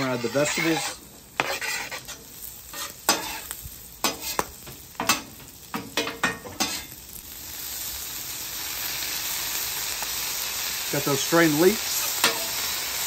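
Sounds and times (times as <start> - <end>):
metal spatula scraping on griddle: 0.0 - 7.8, 8.8 - 13.0
vegetables sizzling in oil: 0.0 - 13.0
wet leeks sizzling loudly: 0.0 - 13.0.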